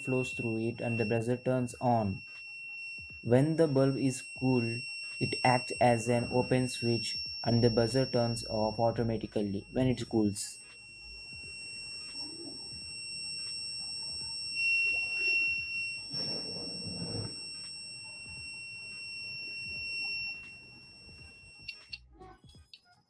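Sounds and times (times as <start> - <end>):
high-pitched buzzer tone: 0.0 - 22.0.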